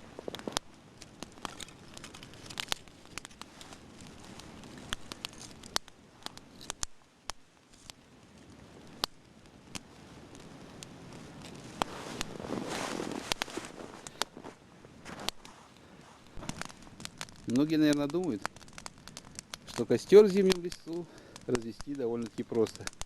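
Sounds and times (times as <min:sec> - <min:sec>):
campfire crackling and popping: 0:00.0 - 0:23.0
faint hiss: 0:00.0 - 0:23.0.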